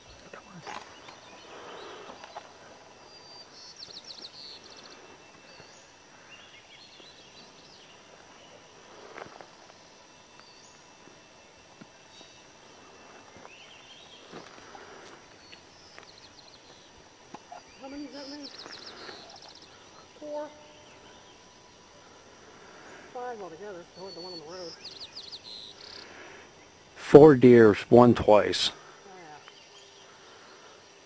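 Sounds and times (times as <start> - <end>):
low background hiss: 0.0 - 31.0.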